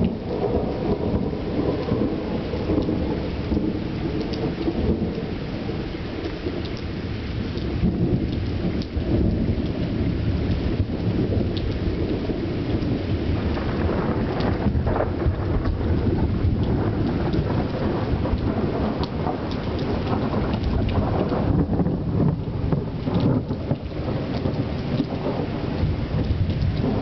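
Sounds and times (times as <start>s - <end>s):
steady rain: 0.0s - 27.0s
thunder rumbling: 0.0s - 27.0s.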